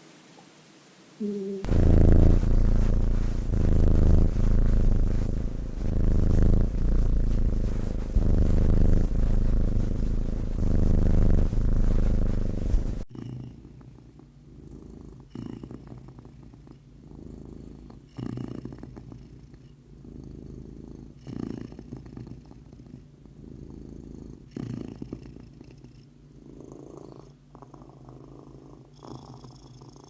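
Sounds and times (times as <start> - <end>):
cat purring loudly: 1.2 - 30.0.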